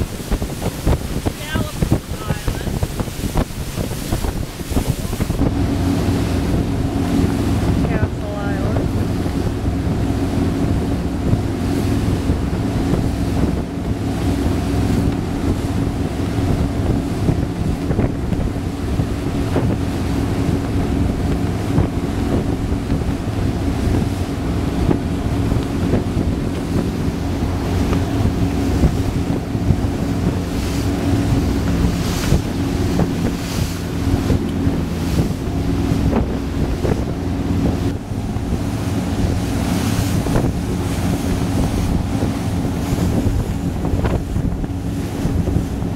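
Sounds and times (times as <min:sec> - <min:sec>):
boat engines droning: 0:00.0 - 0:45.9
water rushing past hull: 0:00.0 - 0:45.9
wind buffeting microphone: 0:00.0 - 0:45.9.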